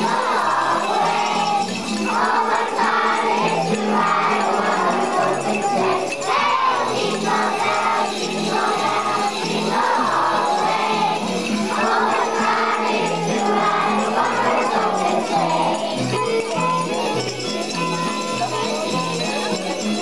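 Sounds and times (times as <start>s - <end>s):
children singing: 0.0s - 16.3s
jingling bells: 0.0s - 20.0s
musical accompaniment: 0.0s - 20.0s.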